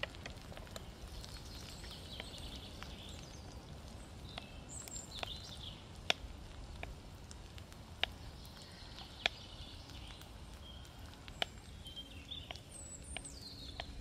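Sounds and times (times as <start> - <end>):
songbirds chirping and singing: 0.7 - 6.0, 8.0 - 14.0.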